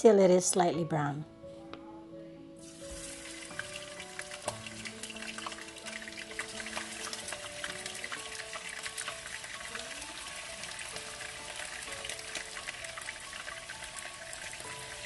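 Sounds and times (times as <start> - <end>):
ribs sizzling and spattering in oil: 2.6 - 15.0.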